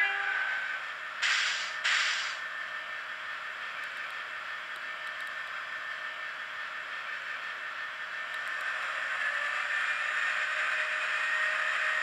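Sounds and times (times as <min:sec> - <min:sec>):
thin model diesel engine drone: 0:00.0 - 0:02.4, 0:03.6 - 0:12.0.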